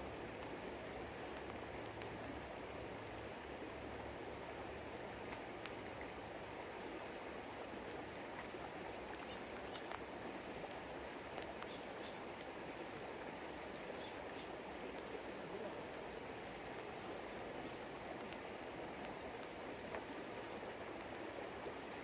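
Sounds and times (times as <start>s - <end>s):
faint ticks: 0.0s - 22.0s
flowing river water: 0.0s - 22.0s.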